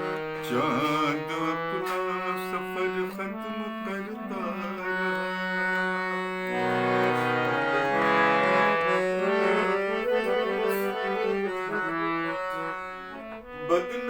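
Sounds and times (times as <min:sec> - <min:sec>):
reed instrument melody: 0:00.0 - 0:14.0.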